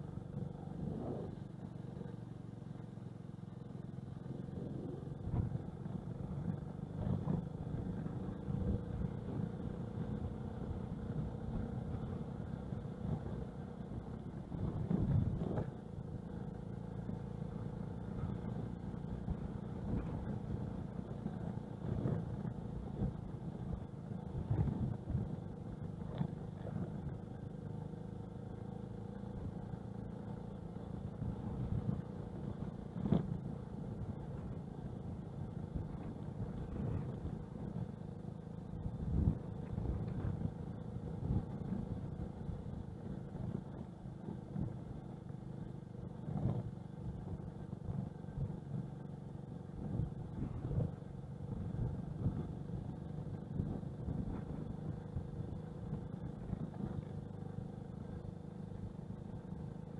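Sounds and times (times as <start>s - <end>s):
moped engine running: 0.0s - 59.9s.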